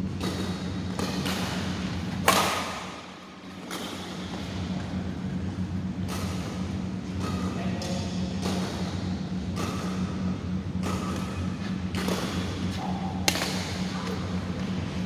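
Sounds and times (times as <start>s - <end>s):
steady low hum: 0.0s - 15.0s
racket hitting shuttlecock: 0.1s - 4.5s, 6.0s - 14.6s.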